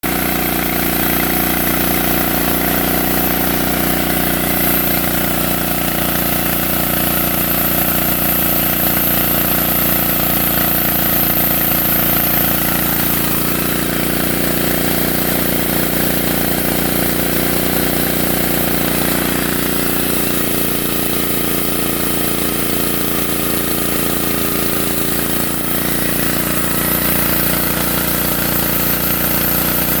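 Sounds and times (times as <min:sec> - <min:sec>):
sawmill engine running: 0:00.0 - 0:30.0.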